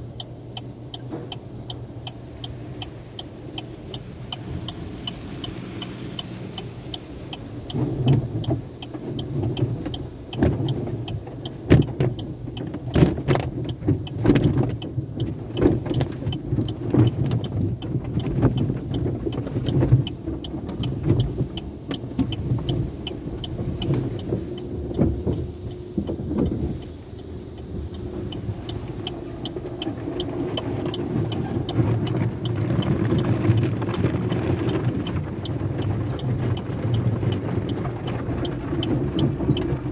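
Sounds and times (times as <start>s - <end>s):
car wash rumble: 0.0s - 39.9s
wash equipment slapping car: 0.0s - 39.9s.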